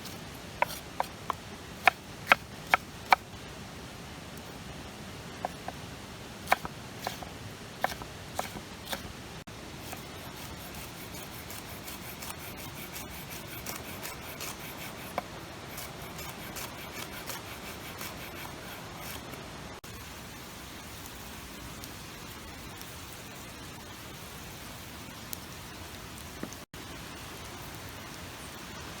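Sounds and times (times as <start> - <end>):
food hissing over fire: 4.4 - 29.0.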